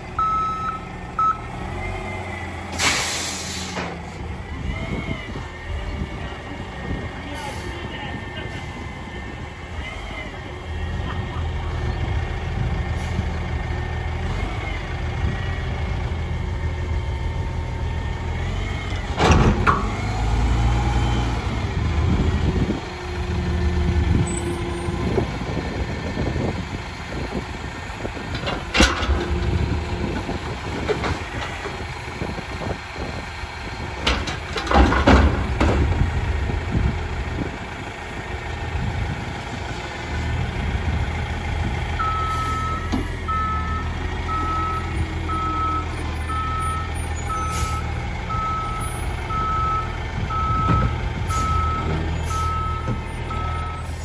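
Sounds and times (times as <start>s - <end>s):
garbage truck engine running: 8.1s - 54.0s.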